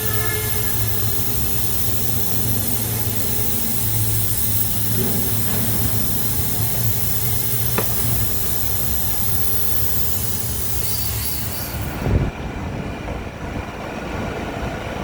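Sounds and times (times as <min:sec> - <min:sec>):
machine hissing: 0:00.0 - 0:12.4
machine humming: 0:00.0 - 0:14.6.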